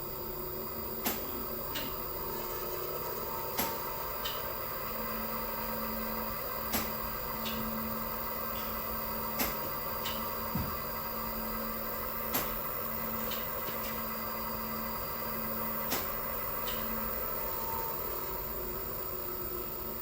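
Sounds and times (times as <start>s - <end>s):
electrical hum with tones: 0.0s - 20.0s.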